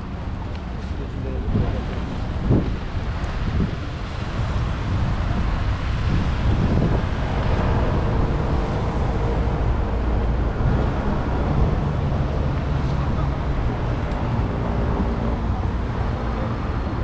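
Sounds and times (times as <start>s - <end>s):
city traffic: 0.0s - 17.0s
faint engine hum: 0.0s - 17.0s
wind buffeting microphone: 0.0s - 17.0s.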